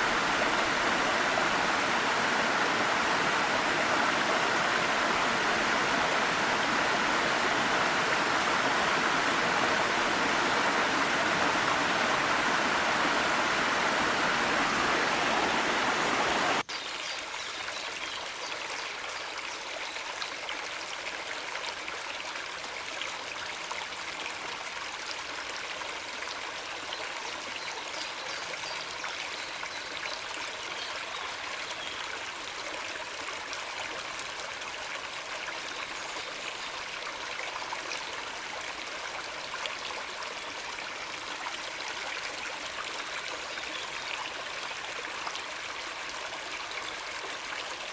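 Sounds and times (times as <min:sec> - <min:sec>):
small waterfall rushing: 0:00.0 - 0:47.9
stream trickling and gurgling: 0:00.0 - 0:47.9.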